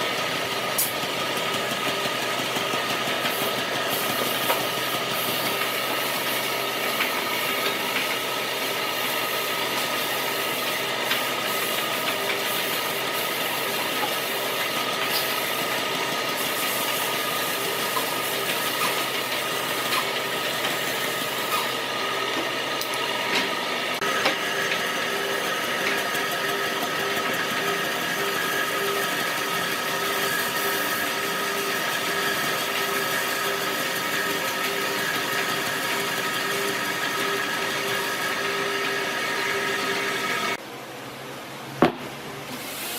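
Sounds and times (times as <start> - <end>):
power tool running: 0.0 - 40.6.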